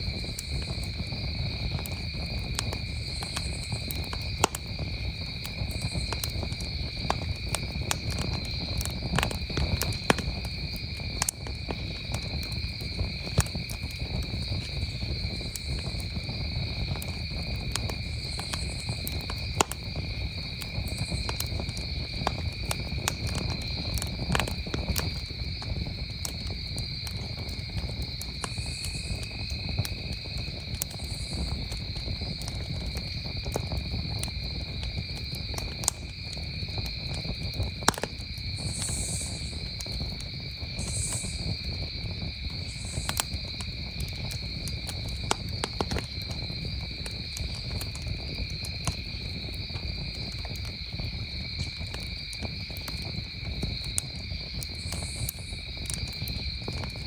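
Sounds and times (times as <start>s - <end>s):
campfire crackling and popping: 0.0s - 57.0s
crickets chirping: 0.0s - 57.0s.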